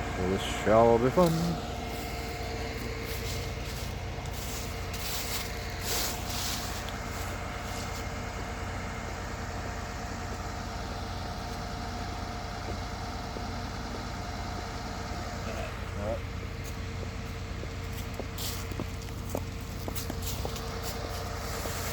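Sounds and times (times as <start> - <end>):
steady whine: 0.0 - 21.9
vehicle engine idling: 0.0 - 21.9.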